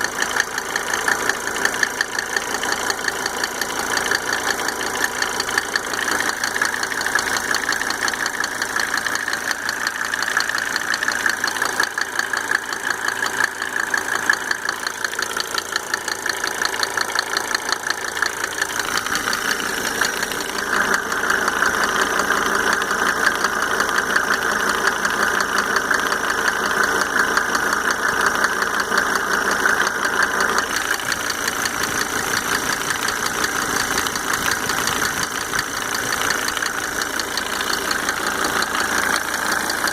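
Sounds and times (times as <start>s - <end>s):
diesel engine idling: 0.0s - 39.9s
fast steady engine tick: 0.0s - 39.9s.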